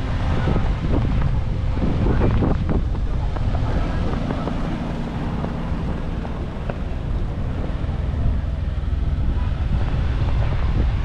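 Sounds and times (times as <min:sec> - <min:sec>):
low engine rumble: 0:00.0 - 0:11.0
wind buffeting microphone: 0:00.0 - 0:11.0.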